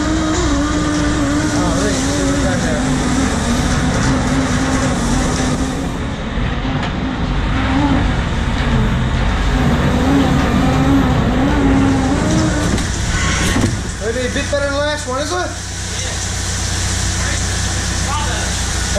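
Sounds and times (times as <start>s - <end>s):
boat engine and deck machinery drone: 0.0s - 18.9s.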